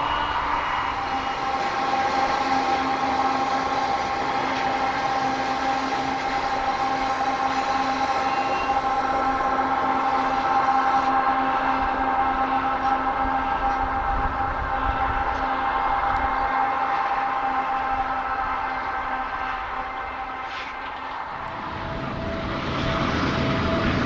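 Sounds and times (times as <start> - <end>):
freight train rumble: 0.0 - 24.0
locomotive whining tones: 0.0 - 24.0.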